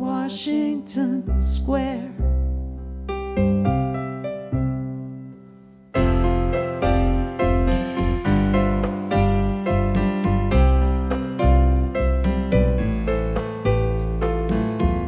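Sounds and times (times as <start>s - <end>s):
electric keyboard piano chords: 0.8s - 15.0s.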